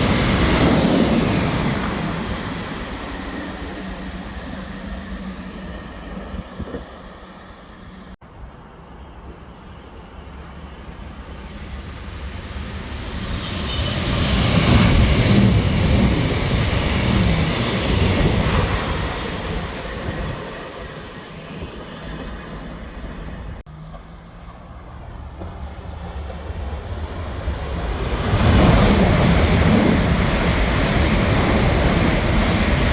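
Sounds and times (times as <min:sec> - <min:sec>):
train passing at speed: 0:00.0 - 0:32.9.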